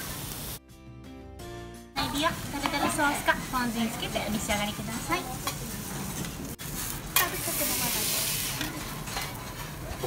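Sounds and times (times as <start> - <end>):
food sizzling on a griddle: 0.0 - 0.6, 2.0 - 10.0.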